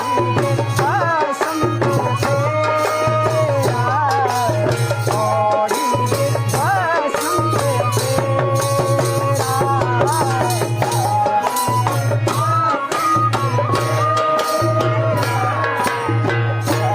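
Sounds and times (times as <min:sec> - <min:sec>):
hand drum and rattle beat: 0:00.0 - 0:16.9.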